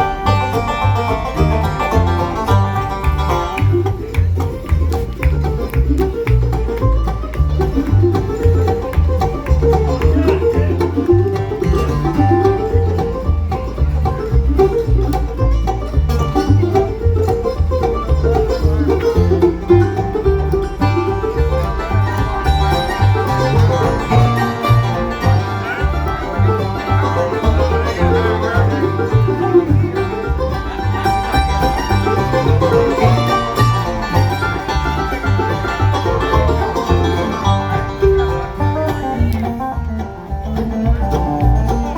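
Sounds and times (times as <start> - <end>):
pulsing bass line: 0.0 - 41.9
rapid banjo rolls: 0.0 - 41.9
sustained melody notes: 0.0 - 41.9.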